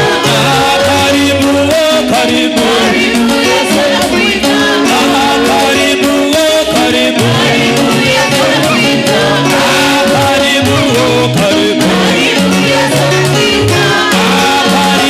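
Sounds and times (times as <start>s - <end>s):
bass line: 0.0s - 15.0s
people singing gospel: 0.0s - 15.0s
shaker beat: 0.0s - 15.0s.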